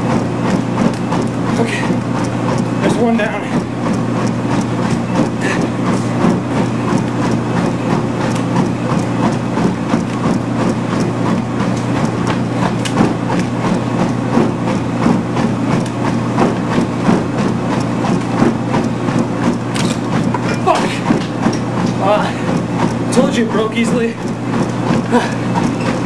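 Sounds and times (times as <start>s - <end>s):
treadmill motor hum: 0.0s - 26.0s
running footfalls on belt: 0.1s - 26.0s.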